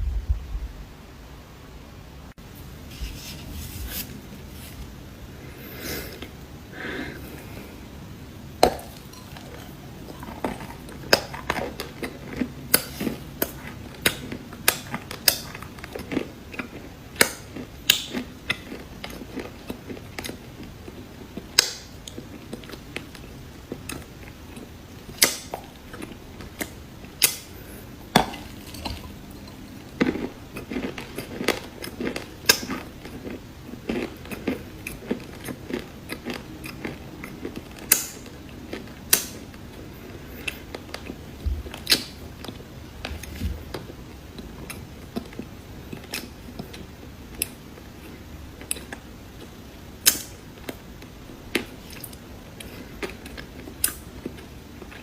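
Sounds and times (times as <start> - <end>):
cookies crunching while chewed: 8.5 - 55.0.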